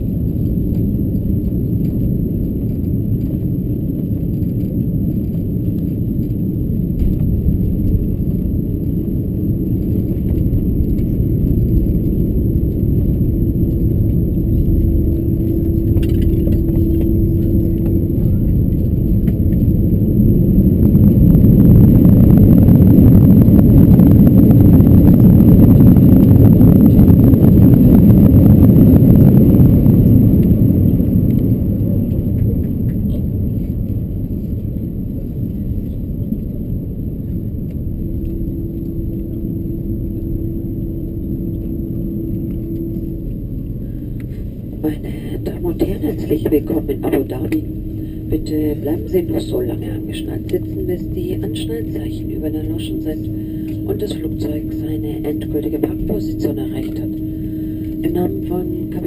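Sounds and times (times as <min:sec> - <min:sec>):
airplane cabin rumble: 0:00.0 - 0:59.0
loud engine rumble: 0:00.0 - 0:59.0.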